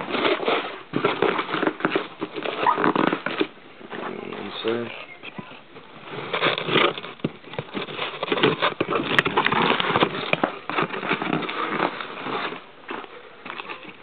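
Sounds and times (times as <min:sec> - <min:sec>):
cardboard box scraping and rustling: 0:00.0 - 0:04.9, 0:05.8 - 0:14.0.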